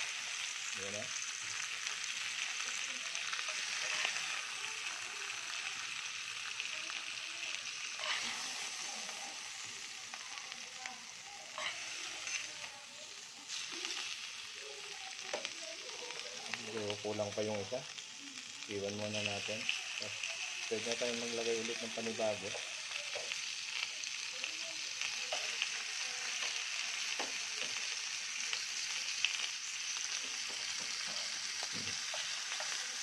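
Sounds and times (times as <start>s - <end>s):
steaks sizzling in a pan: 0.0s - 33.0s.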